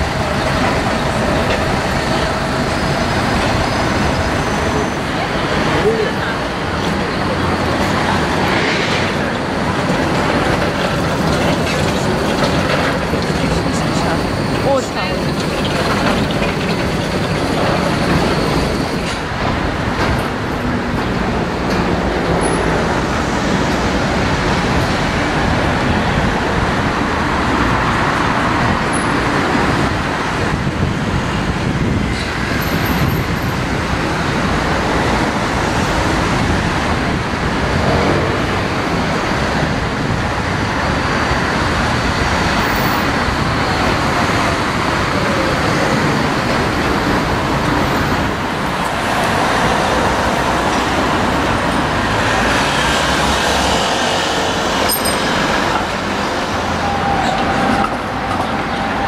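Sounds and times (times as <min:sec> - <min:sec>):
electric trams running: 0:00.0 - 0:59.0
road traffic: 0:00.0 - 0:59.0.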